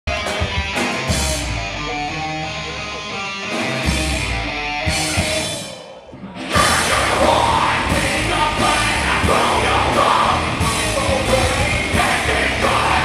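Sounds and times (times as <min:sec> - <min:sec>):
rock band playing: 0:00.0 - 0:13.0
electric guitar: 0:00.1 - 0:13.0.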